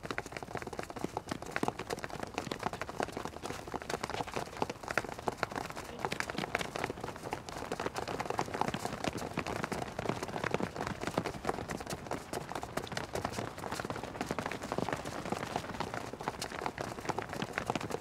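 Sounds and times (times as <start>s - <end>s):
footsteps sprinting on running track: 0.0s - 18.0s.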